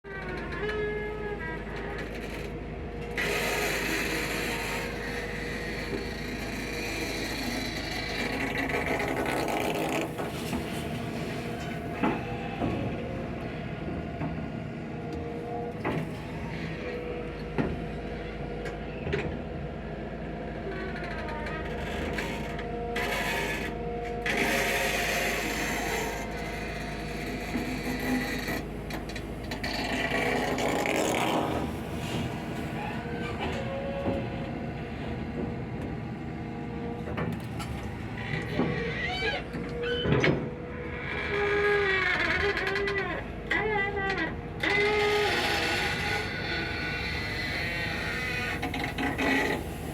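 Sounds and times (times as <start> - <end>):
heavy machinery running: 0.4 - 19.6, 23.2 - 41.0, 44.4 - 49.9.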